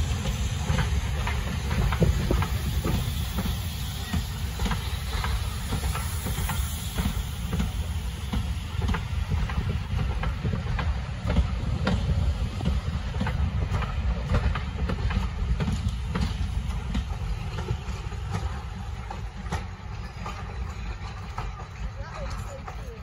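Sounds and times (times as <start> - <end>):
rail joint clicks: 0.0 - 23.0
train wheels rumbling on track: 0.0 - 23.0.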